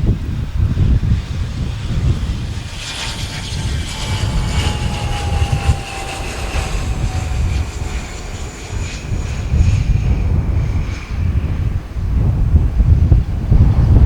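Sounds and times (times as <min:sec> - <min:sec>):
jet engines whining: 0:00.0 - 0:13.5
wind rumble on microphone: 0:00.0 - 0:14.0.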